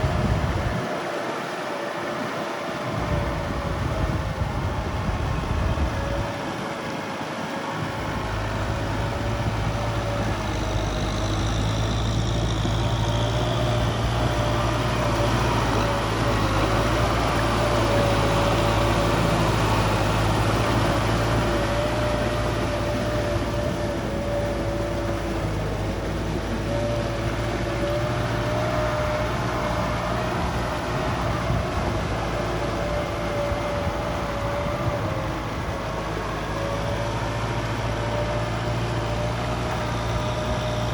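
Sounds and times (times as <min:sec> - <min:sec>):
tiller whine: 0:00.0 - 0:40.9
tractor diesel engine running: 0:00.0 - 0:40.9.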